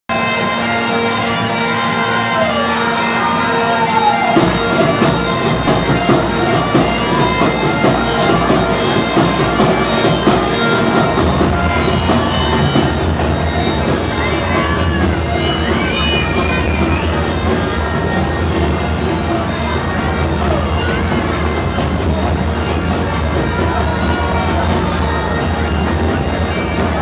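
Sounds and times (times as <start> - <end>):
bass: 0.1 - 27.0
droning stage music: 0.1 - 27.0
steady drum beat: 3.6 - 27.0.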